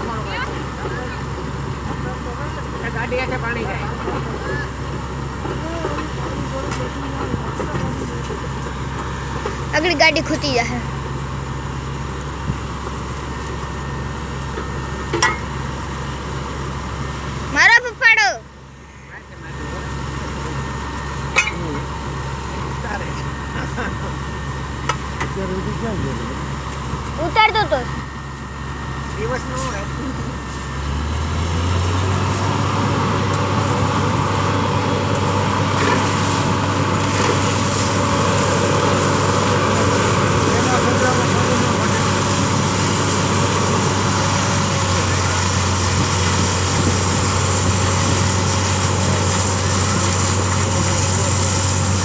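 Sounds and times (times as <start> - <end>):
drilling rig machinery running: 0.0 - 52.0.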